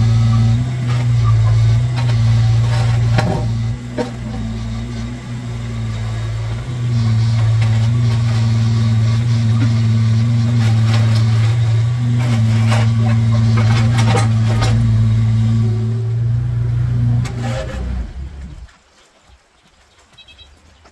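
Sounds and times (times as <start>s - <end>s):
excavator diesel engine running: 0.0s - 18.7s.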